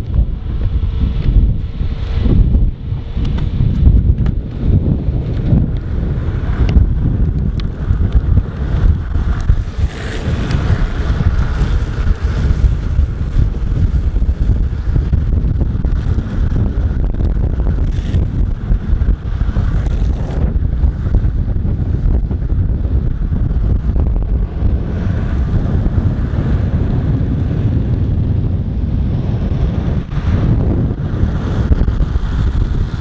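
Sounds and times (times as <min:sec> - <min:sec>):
wind buffeting on microphone: 0:00.0 - 0:33.0.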